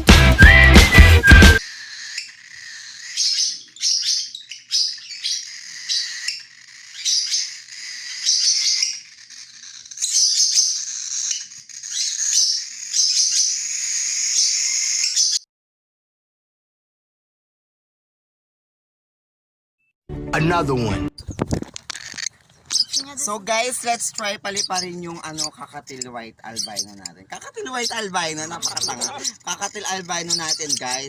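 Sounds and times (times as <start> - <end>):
birds chirping: 0.0 - 15.4, 21.2 - 31.0.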